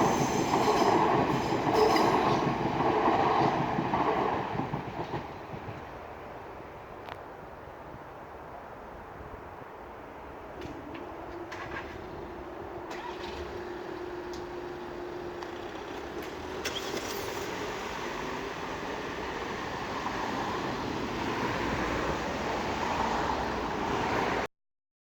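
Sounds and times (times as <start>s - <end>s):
road traffic: 0.0s - 24.5s.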